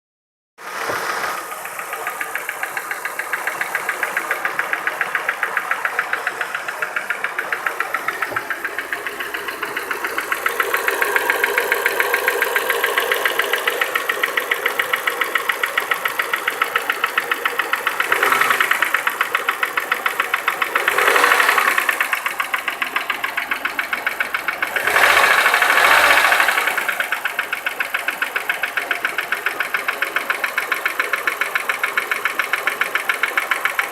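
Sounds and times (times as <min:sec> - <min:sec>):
car engine running: 0:00.6 - 0:33.9
rapid ticking engine knock: 0:00.8 - 0:33.9.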